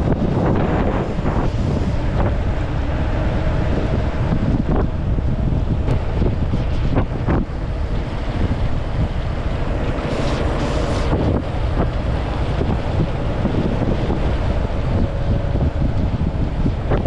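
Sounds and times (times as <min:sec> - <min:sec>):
wind buffeting on microphone: 0:00.0 - 0:17.0.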